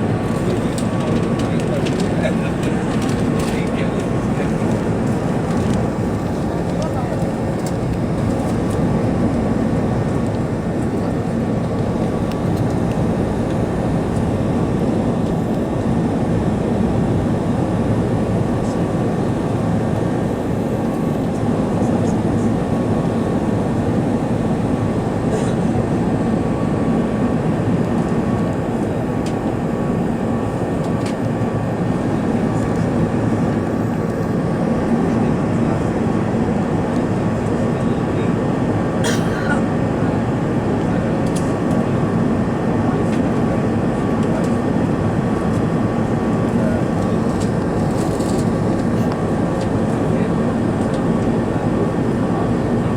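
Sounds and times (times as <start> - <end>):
aircraft cabin roar: 0.0 - 52.9.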